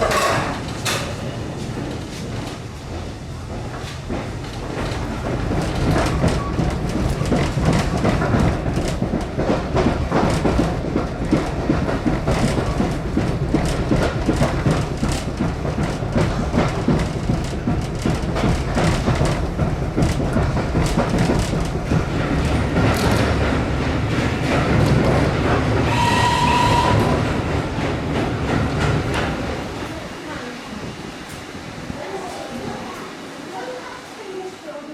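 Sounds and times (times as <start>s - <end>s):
train wheels clickety-clack: 0.0s - 34.3s
low train rumble: 0.0s - 34.9s.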